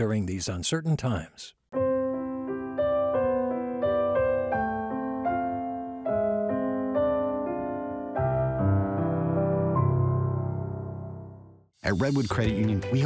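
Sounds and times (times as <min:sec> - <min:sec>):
slow piano music: 0:01.8 - 0:11.7, 0:12.4 - 0:13.0.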